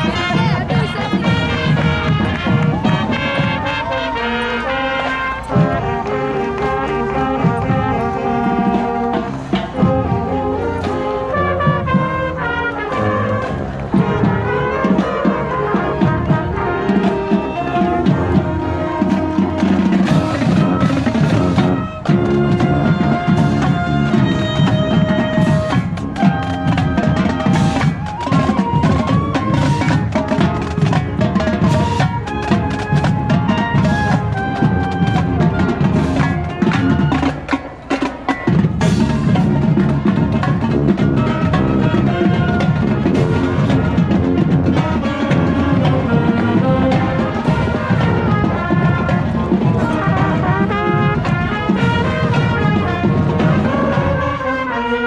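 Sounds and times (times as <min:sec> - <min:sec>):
horns playing melody: 0:00.0 - 0:55.0
marching band drums: 0:00.0 - 0:55.0.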